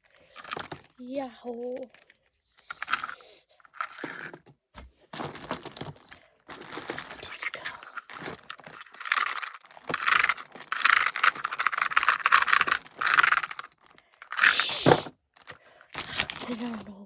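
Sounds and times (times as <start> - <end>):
toys rattling and clattering: 0.0 - 17.0.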